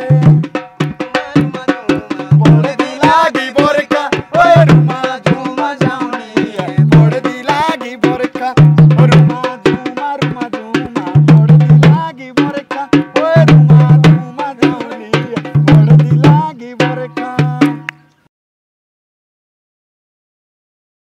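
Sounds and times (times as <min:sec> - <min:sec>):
folk music with fast drum beat: 0:00.0 - 0:18.2.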